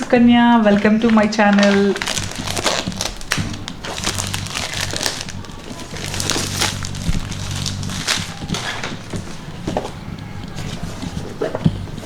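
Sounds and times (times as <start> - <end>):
low hum: 0.0 - 12.0
packaging crinkling: 0.0 - 12.0.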